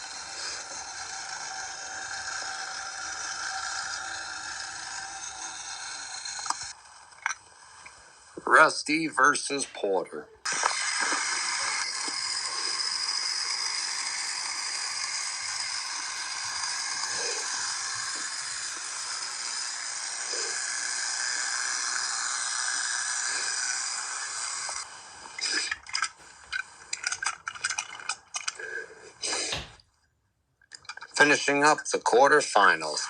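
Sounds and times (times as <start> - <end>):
toy train motor whirring: 0.0 - 29.7.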